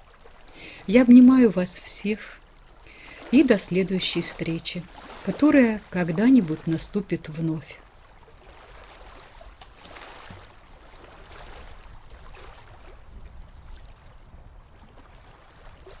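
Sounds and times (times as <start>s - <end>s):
small waves lapping against pier: 0.0s - 16.0s.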